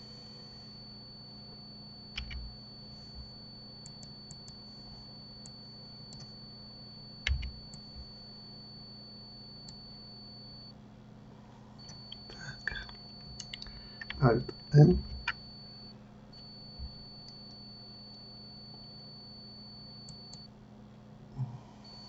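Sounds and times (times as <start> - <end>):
faint high-pitched whine and hum: 0.0 - 22.0.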